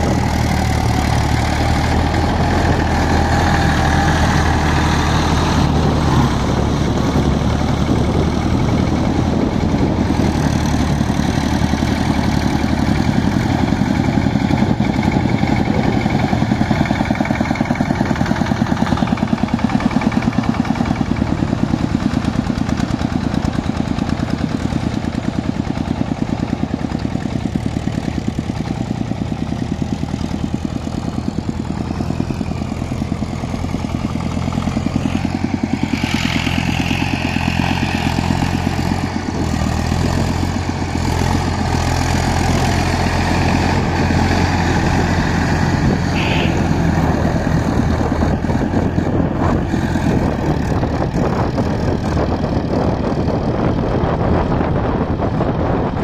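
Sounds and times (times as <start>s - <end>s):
diesel engines chugging: 0.0s - 56.0s.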